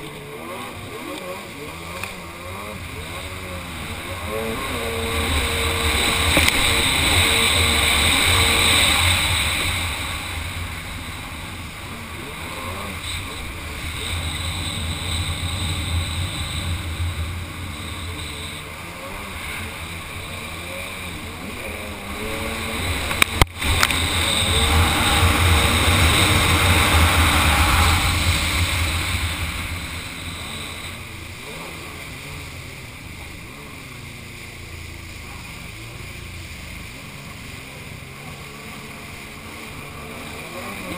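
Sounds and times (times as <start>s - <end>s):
jet ski engine running: 0.0s - 40.9s
wind and water rushing: 0.0s - 40.9s.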